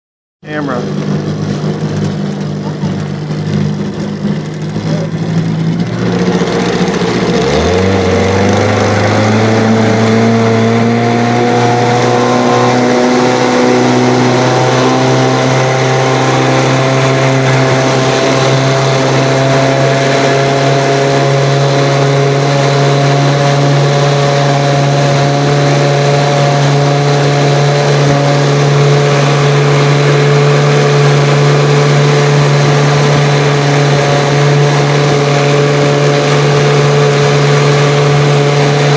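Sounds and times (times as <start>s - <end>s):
outboard motor running: 0.4s - 38.9s
water rushing and spray: 0.6s - 38.9s.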